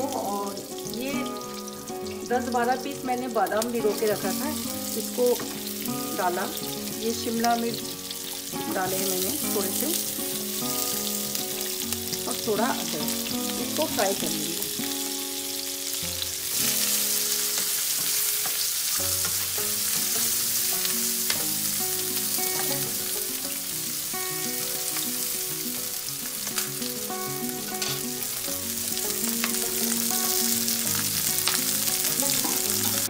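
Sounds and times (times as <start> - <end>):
vegetables sizzling in a frying pan: 0.0 - 33.0.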